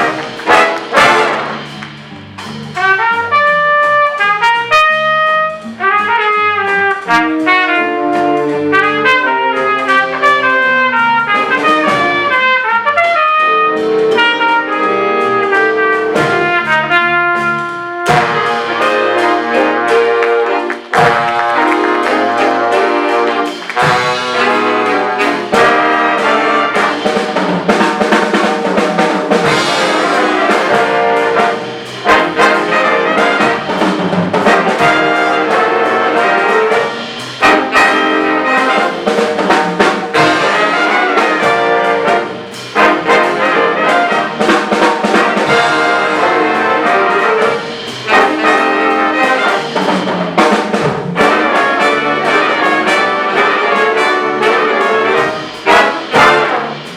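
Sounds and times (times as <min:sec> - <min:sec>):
jazz big band playing swing: 0:00.0 - 0:56.9.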